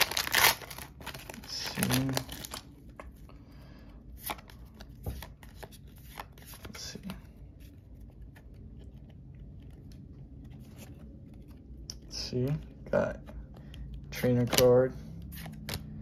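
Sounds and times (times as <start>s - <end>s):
trading cards slapping and rustling: 0.0s - 3.2s, 4.1s - 16.0s.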